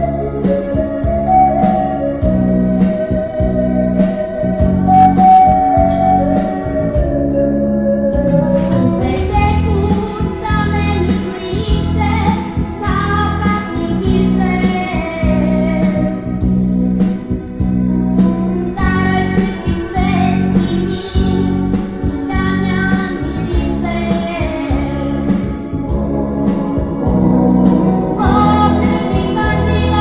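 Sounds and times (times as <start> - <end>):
song with singing voice: 0.0 - 16.5, 18.2 - 30.0.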